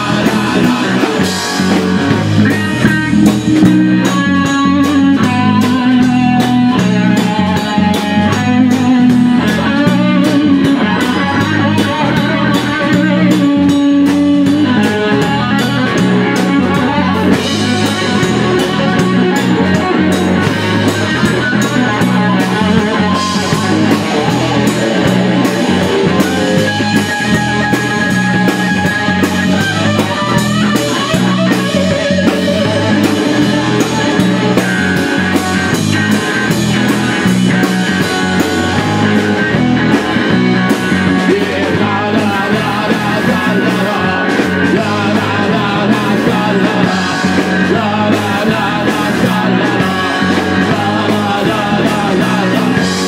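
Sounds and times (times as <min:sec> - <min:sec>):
bass guitar: 0:00.0 - 0:53.0
drum kit beat: 0:00.0 - 0:53.0
electric guitar: 0:00.0 - 0:53.0.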